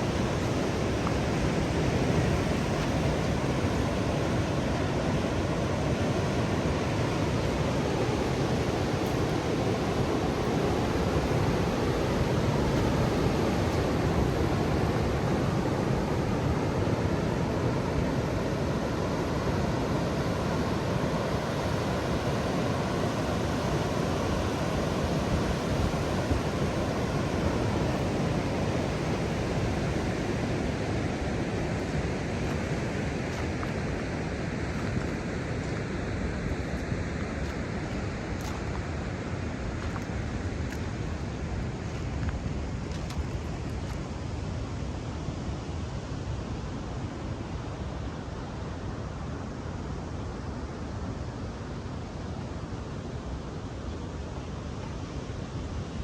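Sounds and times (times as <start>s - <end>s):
surf roar: 0.0s - 56.0s
wind: 0.0s - 56.0s.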